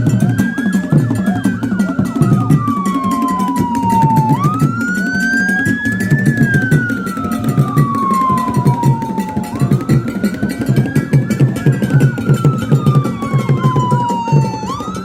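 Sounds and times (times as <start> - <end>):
wailing siren: 0.0 - 15.0.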